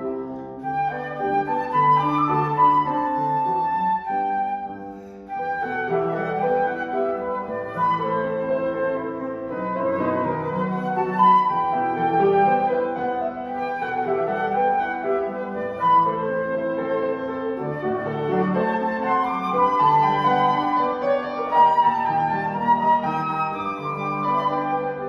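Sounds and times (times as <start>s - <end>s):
child playing flute: 0.0s - 25.0s
piano accompaniment: 0.0s - 25.0s.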